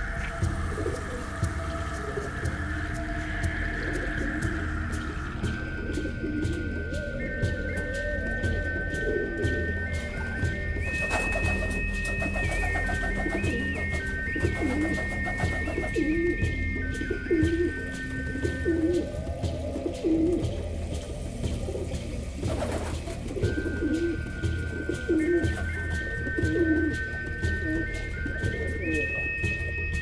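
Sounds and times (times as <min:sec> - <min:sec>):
background music with high notes: 0:00.0 - 0:30.0
pigeons cooing: 0:00.0 - 0:30.0.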